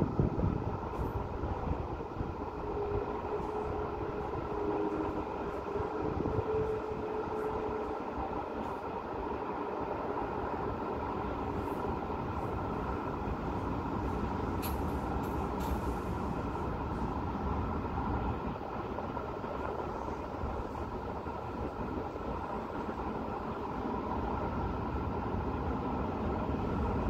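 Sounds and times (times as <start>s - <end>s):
road traffic hum: 0.0s - 27.0s.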